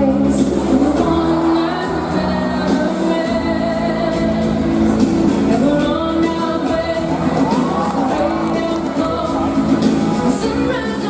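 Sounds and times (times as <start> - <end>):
backing music: 0.0 - 11.0.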